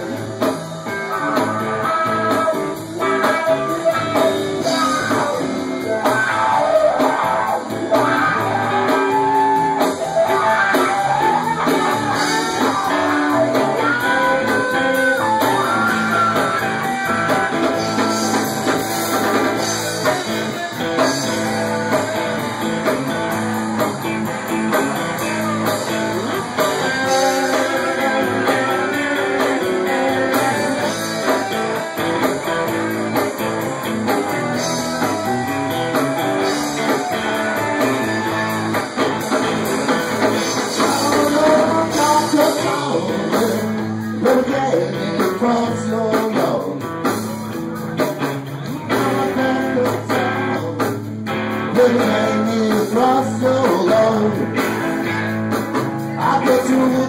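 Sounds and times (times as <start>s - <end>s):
electric guitar bending notes: 0.0s - 46.1s
live blues band: 0.0s - 57.0s.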